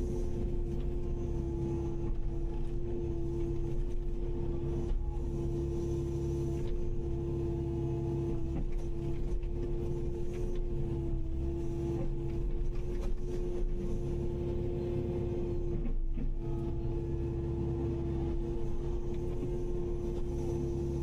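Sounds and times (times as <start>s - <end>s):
excavator engine droning: 0.0s - 21.0s.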